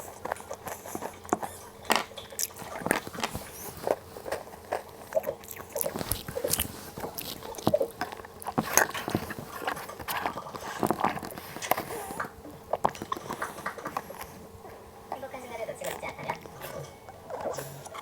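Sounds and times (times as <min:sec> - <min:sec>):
crunching biscuit sticks: 0:00.0 - 0:18.0.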